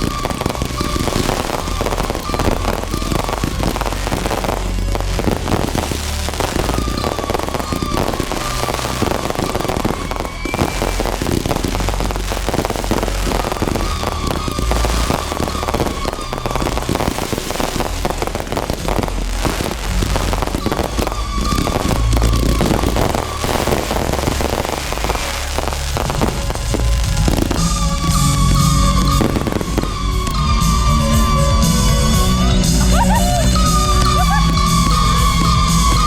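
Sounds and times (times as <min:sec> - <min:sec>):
continuous low rumble: 0:00.0 - 0:36.0
deep fireworks booms: 0:00.0 - 0:36.0
fireworks crackling: 0:00.0 - 0:36.0.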